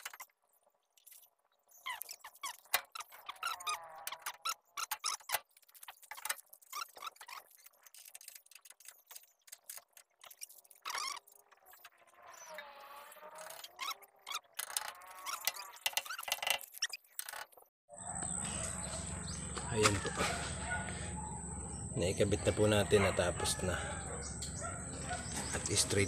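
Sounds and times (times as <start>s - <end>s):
wavering squeaks: 1.7s - 9.2s, 10.2s - 26.0s.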